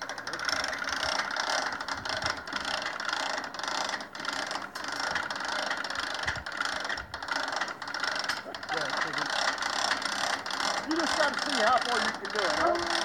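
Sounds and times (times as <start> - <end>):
winch ratchet clicking: 0.0 - 13.0.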